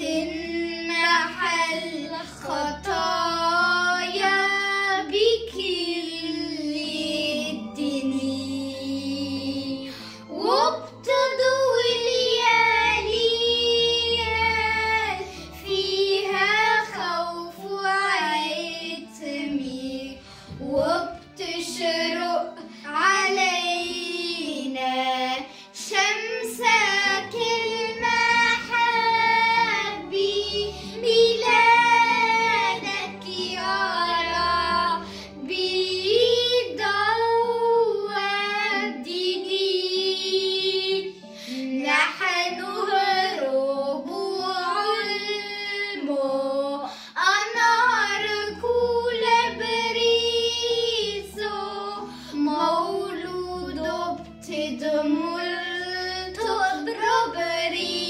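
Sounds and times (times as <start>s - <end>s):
girls singing a hymn: 0.0s - 58.0s
low instrumental accompaniment: 0.0s - 58.0s.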